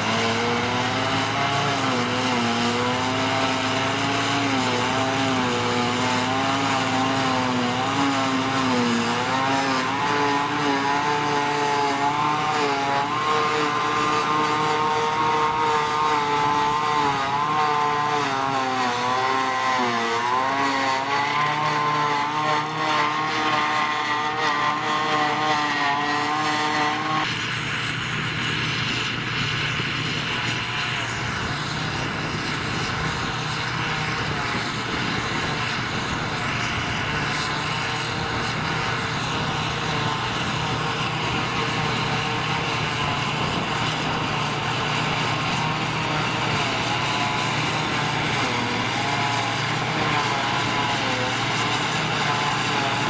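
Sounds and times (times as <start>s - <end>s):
forage harvester chopping grass: 0.0s - 53.0s
tractor engines under load: 0.0s - 53.0s.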